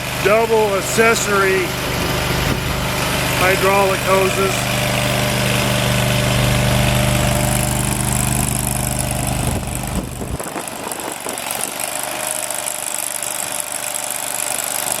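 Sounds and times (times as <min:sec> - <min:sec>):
skid steer engine idling: 0:00.0 - 0:15.0.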